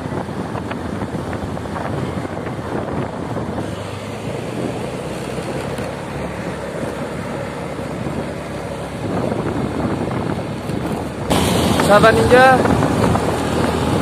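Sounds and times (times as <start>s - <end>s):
motorcycle engine running: 0.0s - 14.0s
road noise: 0.0s - 14.0s
wind rushing over microphone: 0.0s - 14.0s.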